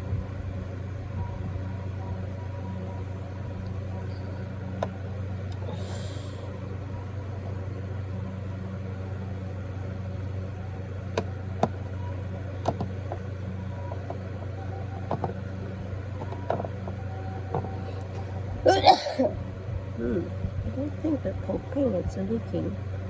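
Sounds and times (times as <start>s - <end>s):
air conditioner humming: 0.0s - 23.0s.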